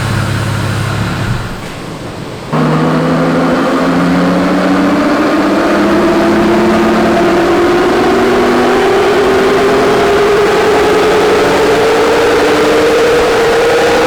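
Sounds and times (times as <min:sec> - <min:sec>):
car engine revving under load: 0:00.0 - 0:14.0.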